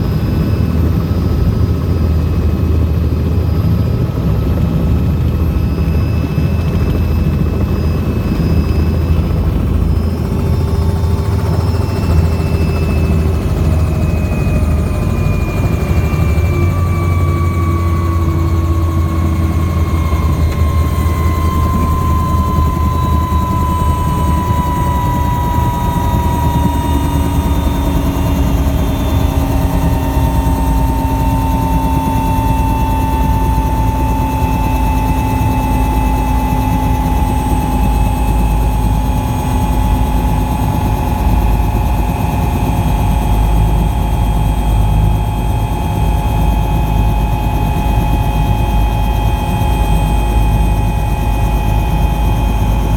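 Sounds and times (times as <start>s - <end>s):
helicopter rotor and engines: 0.0s - 52.9s
turbine whine: 0.0s - 52.9s.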